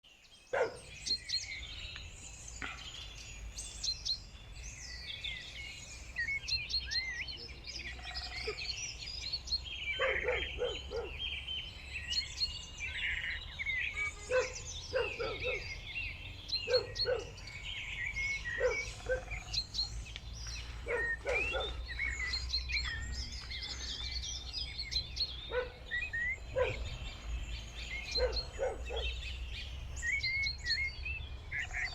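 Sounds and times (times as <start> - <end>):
birds chirping and singing: 0.1 - 31.9.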